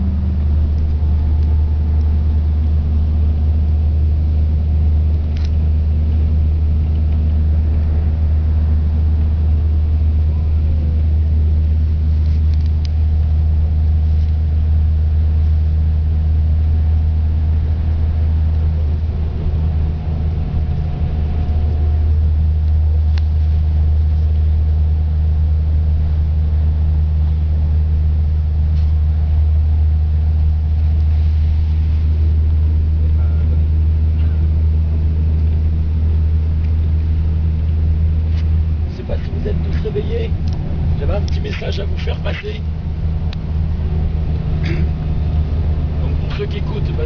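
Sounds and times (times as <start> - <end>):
bus engine and road drone: 0.0 - 47.0.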